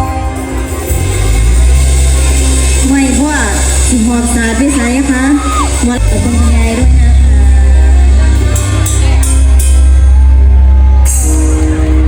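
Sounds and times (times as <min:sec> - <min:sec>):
live band music through pa: 0:00.0 - 0:12.0.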